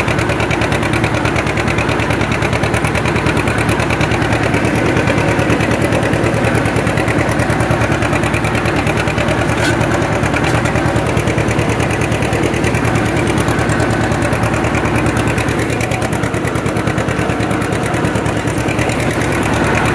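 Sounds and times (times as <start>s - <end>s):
tractor engine running under load: 0.0s - 19.9s.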